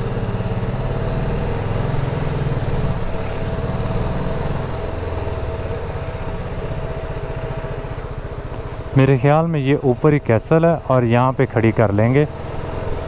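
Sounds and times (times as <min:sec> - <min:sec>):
motorcycle engine running at low revs: 0:00.0 - 0:13.0.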